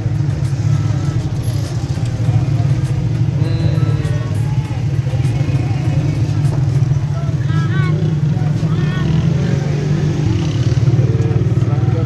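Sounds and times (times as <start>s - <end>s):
motor rickshaw engine running: 0.0s - 12.0s
motorcycles passing: 0.0s - 12.0s
voices of crowded street: 0.0s - 12.0s.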